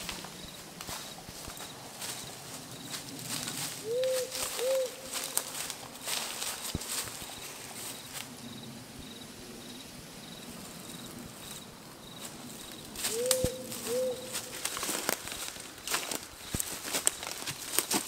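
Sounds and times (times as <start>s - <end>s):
footsteps in dry leaves: 0.0s - 8.4s, 10.7s - 18.0s
horse hooves in dry leaves: 0.0s - 8.8s, 10.4s - 18.0s.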